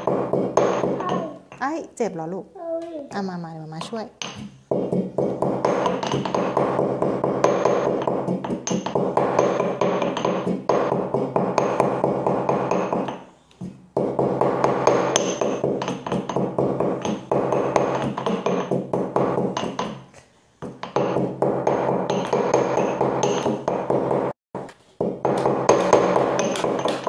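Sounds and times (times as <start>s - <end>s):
pestle pounding in stone mortar: 0.0s - 1.5s, 3.8s - 13.3s, 13.9s - 27.0s.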